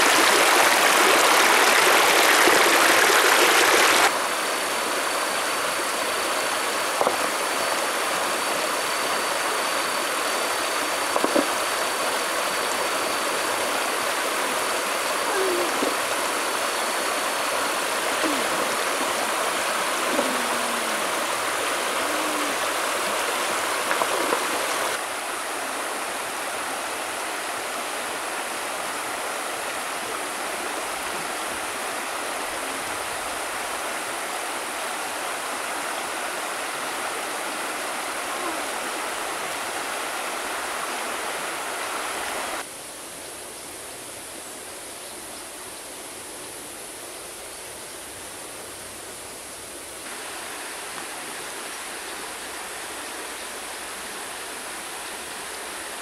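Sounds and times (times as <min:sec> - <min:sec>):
river water rushing over rocks: 0:00.0 - 0:42.6, 0:50.1 - 0:56.0.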